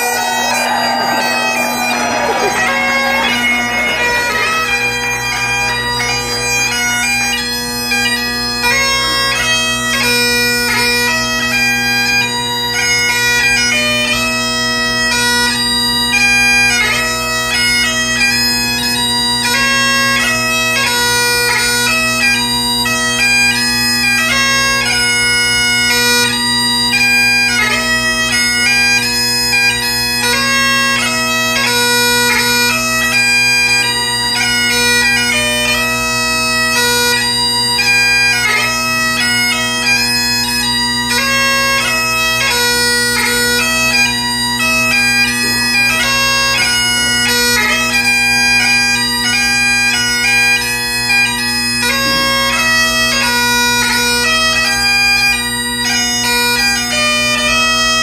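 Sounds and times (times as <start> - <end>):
bagpipe playing: 0.0 - 58.0.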